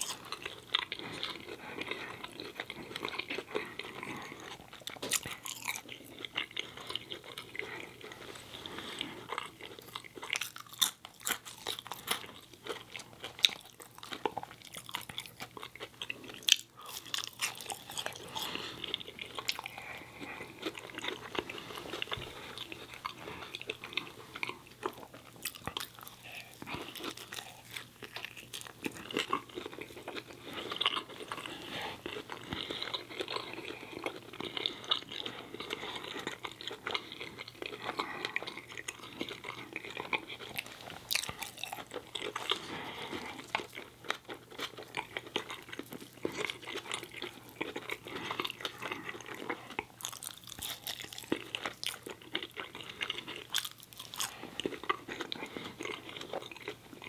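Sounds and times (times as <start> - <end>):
person chewing and biting food: 0.0 - 57.0.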